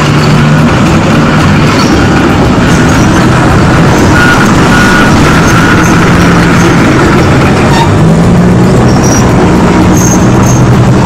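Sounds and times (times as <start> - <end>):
large vehicle engine running: 0.0 - 11.0.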